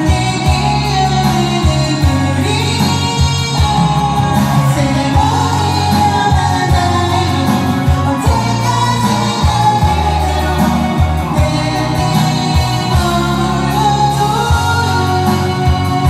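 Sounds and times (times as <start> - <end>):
band accompaniment with drum beat: 0.0 - 16.0
person singing: 0.0 - 16.0.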